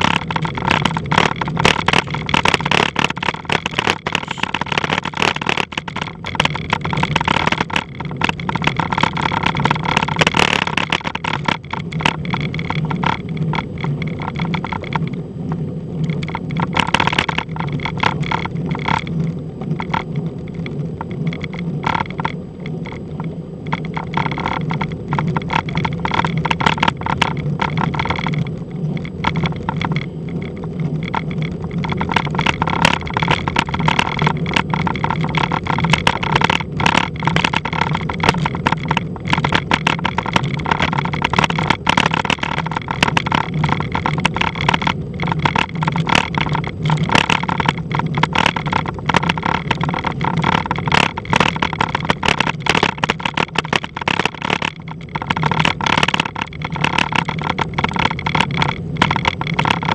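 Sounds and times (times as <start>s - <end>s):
rattling clicks and knocks: 0.0s - 59.9s
vehicle engine running: 0.0s - 59.9s.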